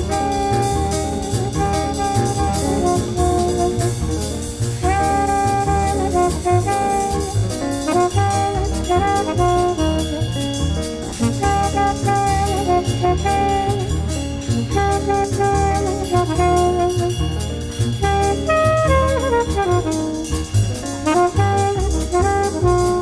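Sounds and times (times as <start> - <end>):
jazz with brass instruments: 0.0 - 23.0.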